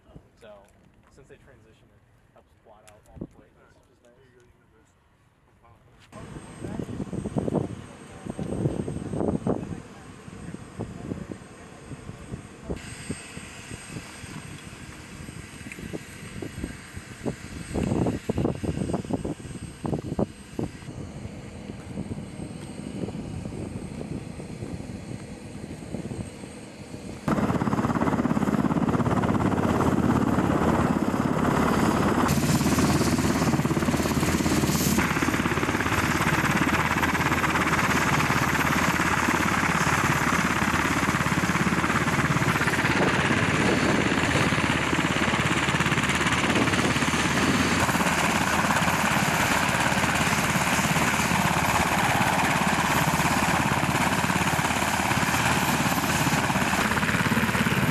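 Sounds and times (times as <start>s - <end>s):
helicopter rotor and turbine noise: 0.0s - 57.9s.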